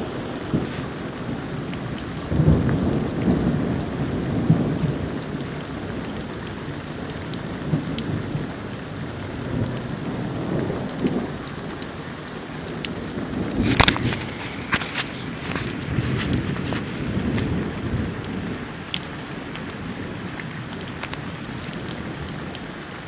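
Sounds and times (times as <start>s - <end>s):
raindrop ticks: 0.0s - 23.0s
steady rain: 0.0s - 23.0s
thunder rumbling: 0.0s - 23.0s.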